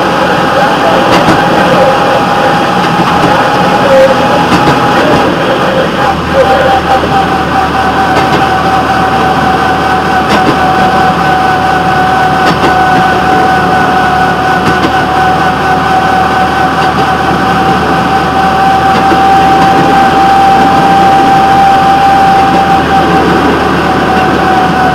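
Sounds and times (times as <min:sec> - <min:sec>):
high whine: 0:00.0 - 0:24.9
rail motorcar running: 0:00.0 - 0:24.9.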